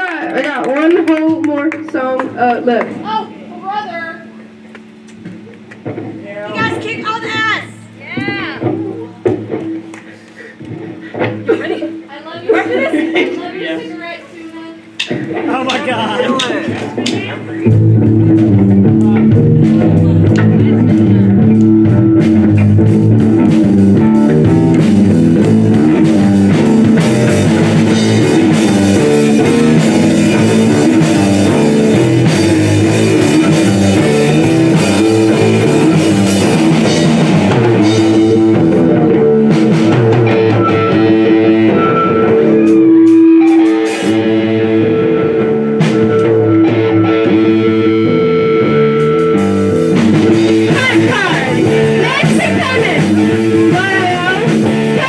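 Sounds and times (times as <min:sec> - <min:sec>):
bass guitar: 0:00.0 - 0:13.9, 0:14.8 - 0:55.0
electric guitar: 0:00.0 - 0:14.1, 0:14.8 - 0:55.0
drum kit: 0:04.5 - 0:12.5, 0:14.8 - 0:55.0.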